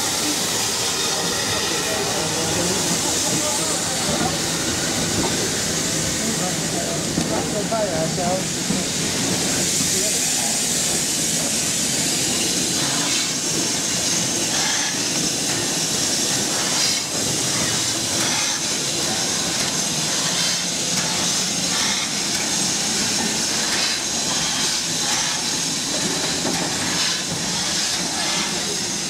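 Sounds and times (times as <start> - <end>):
steam hiss: 0.0 - 29.0
steam locomotive chuffs: 0.0 - 29.0.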